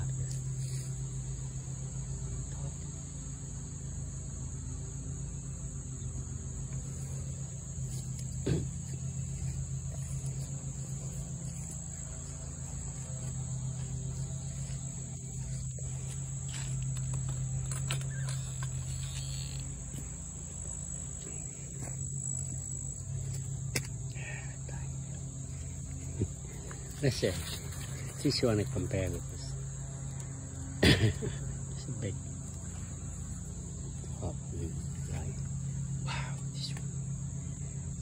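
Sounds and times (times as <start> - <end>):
insects trilling: 0.0 - 38.0
steady low hum: 0.0 - 38.0.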